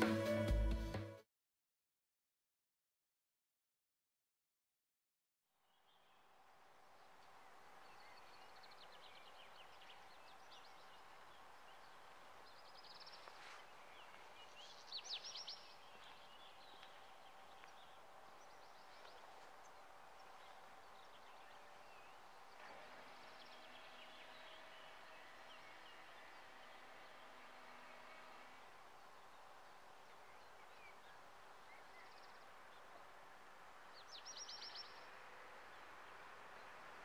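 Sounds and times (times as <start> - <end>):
songbirds chirping and trilling: 5.7 - 37.0.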